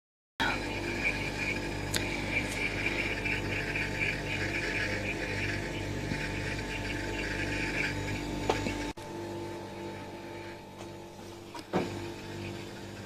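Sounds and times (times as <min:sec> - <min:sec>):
freezer electrical hum: 0:00.4 - 0:13.0.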